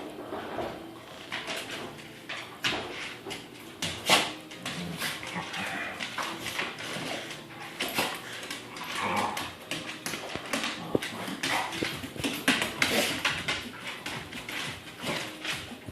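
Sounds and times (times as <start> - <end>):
dog scuffling and breathing: 0.2 - 15.9.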